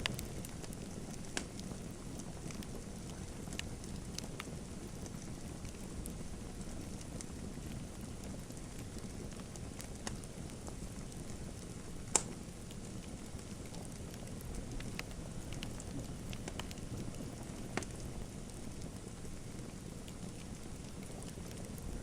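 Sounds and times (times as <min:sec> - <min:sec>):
fire pops and snaps: 0:00.0 - 0:22.0
low rumble of flames: 0:00.0 - 0:22.0.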